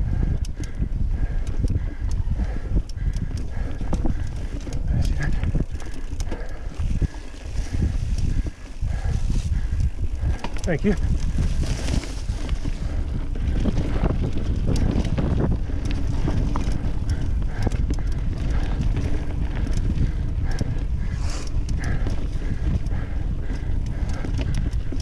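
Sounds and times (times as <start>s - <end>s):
bike knocking and rattling: 0.0s - 25.0s
wind on microphone: 0.0s - 25.0s.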